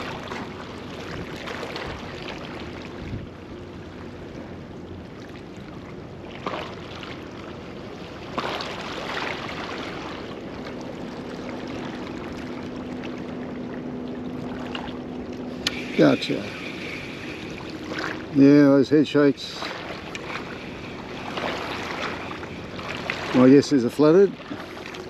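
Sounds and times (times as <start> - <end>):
water noise: 0.0 - 25.0
wind: 0.0 - 25.0.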